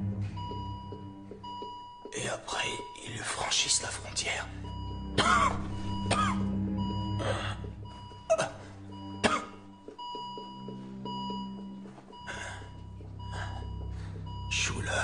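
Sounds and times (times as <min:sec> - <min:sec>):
heart monitor alarm beeping: 0:00.0 - 0:15.0.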